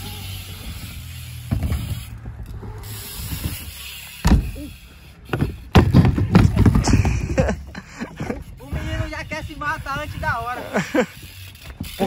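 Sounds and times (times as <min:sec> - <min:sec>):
bike rolling on wooden ramp: 0:00.0 - 0:12.0.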